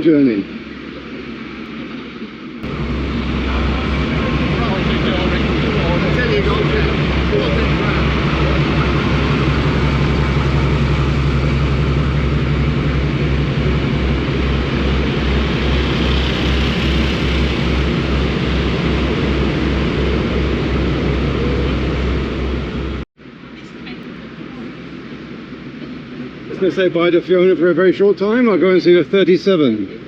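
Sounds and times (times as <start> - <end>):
diesel locomotive idling: 0.0 - 30.0.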